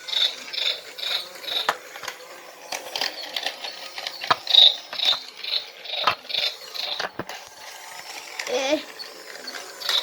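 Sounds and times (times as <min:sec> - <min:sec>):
toy car motor whirring: 0:00.0 - 0:10.0.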